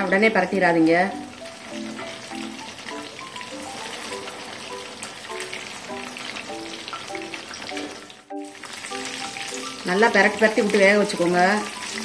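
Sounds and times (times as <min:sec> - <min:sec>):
food deep-frying in hot oil: 0:00.0 - 0:12.0
light background music: 0:00.0 - 0:12.0.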